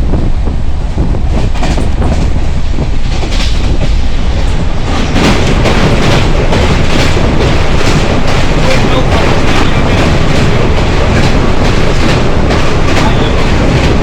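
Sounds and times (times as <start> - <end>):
train rumbling on rails: 0.0 - 14.0
wheels knocking: 0.0 - 14.0.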